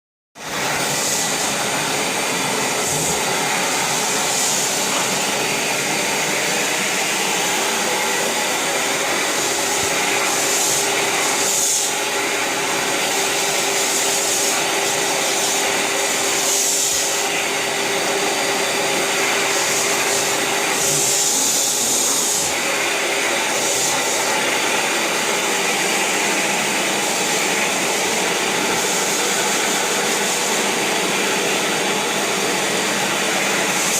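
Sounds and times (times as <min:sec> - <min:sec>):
vacuum cleaner running: 0:00.4 - 0:33.9.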